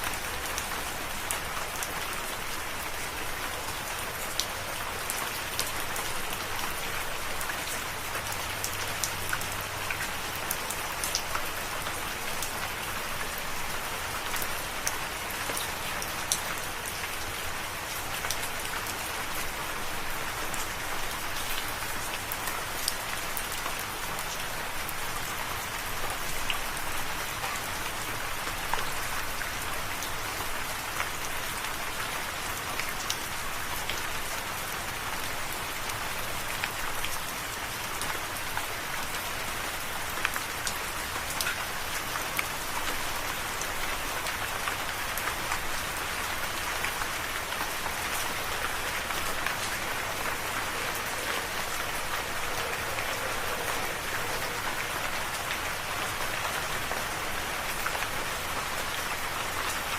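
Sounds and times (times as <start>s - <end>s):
rain falling: 0.0s - 59.9s
raindrops pattering on surface: 0.0s - 59.9s.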